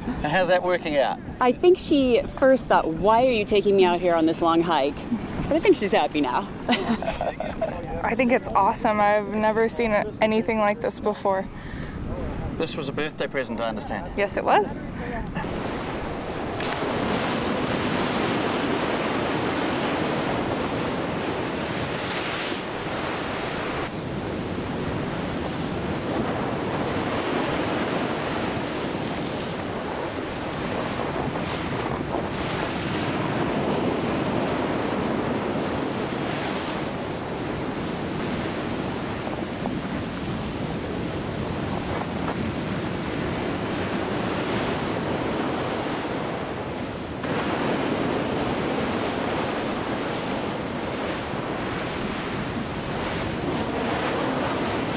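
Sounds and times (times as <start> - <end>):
ocean surf rushing: 0.0 - 10.9, 14.1 - 54.9
wind buffeting the microphone: 0.0 - 54.9.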